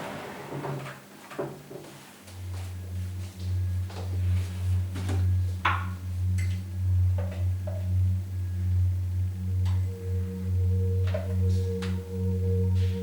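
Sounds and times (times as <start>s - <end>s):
low steady hum: 2.2s - 13.0s.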